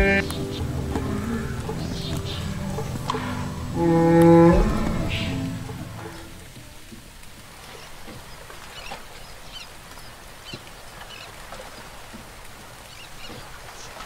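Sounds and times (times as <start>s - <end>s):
small birds chirping: 0.0s - 6.9s, 7.6s - 14.0s
steady background hiss: 0.0s - 14.0s.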